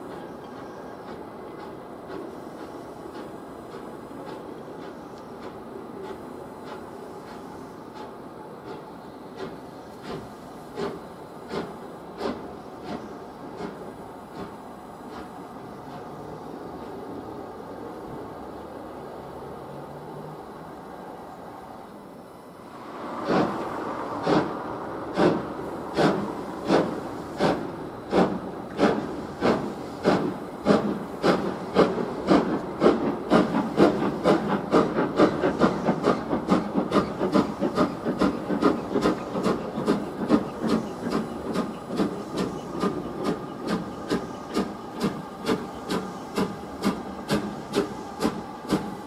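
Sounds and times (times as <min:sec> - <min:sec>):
steam locomotive chuffing: 0:00.0 - 0:17.0, 0:22.8 - 0:49.0.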